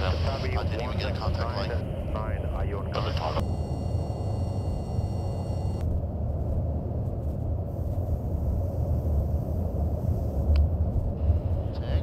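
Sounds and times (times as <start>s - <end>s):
aircraft engine and airflow rumble: 0.0s - 12.0s.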